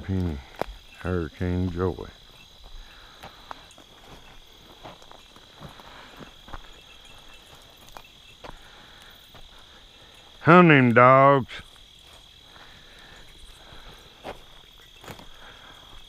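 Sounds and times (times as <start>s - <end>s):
footsteps through dry brush: 0.0s - 10.5s, 11.6s - 16.0s
night insects chirring: 0.0s - 16.0s.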